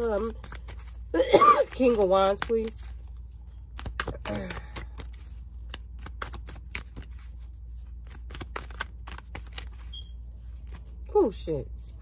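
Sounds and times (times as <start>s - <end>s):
cards being shuffled by hand: 0.0s - 12.0s.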